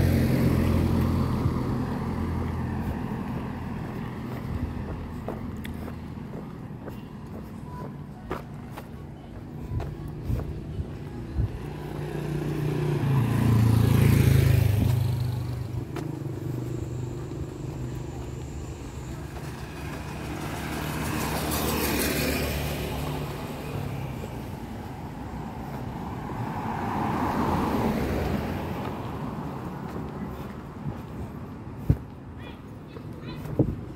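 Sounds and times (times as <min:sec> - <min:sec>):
vehicles driving past: 0:00.0 - 0:33.9.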